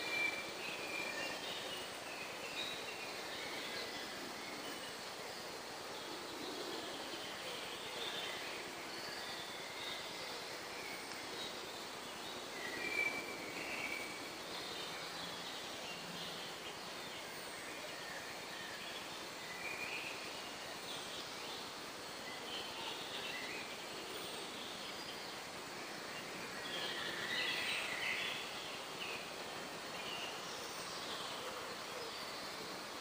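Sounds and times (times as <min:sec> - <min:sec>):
bird calls and chirps: 0:00.0 - 0:33.0
steady background hiss: 0:00.0 - 0:33.0.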